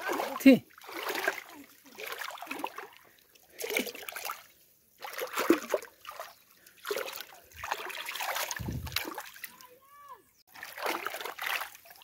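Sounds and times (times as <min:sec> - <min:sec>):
hand splashing shallow water: 0:00.0 - 0:09.6, 0:10.5 - 0:12.0.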